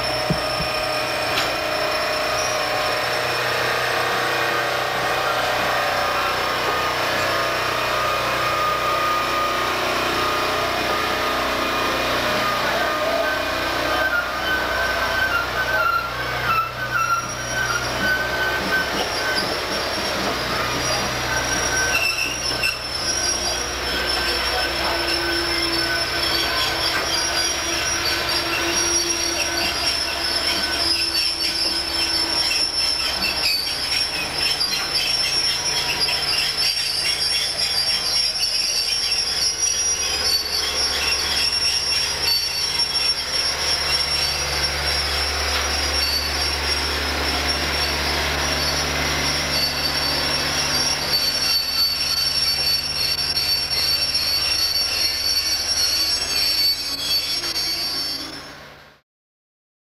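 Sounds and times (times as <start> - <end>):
rumble of moving train: 0.0 - 59.0
train wheels squealing: 0.0 - 59.0.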